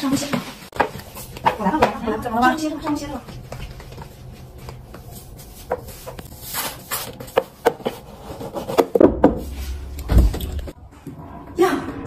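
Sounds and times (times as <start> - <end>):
broom sweeping hard floor: 0.0 - 8.6, 9.2 - 10.4.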